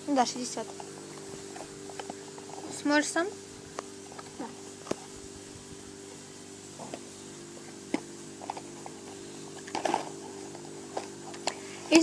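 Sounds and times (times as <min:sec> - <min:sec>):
appliance electrical hum: 0:00.0 - 0:12.0.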